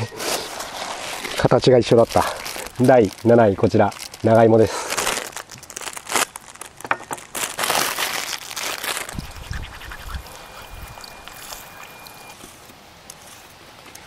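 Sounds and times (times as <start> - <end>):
plastic packaging crinkling: 0.0 - 13.4.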